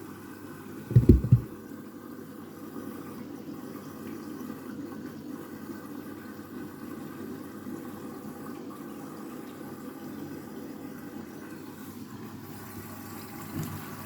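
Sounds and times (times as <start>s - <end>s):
washing machine filling with water: 0.0s - 14.0s.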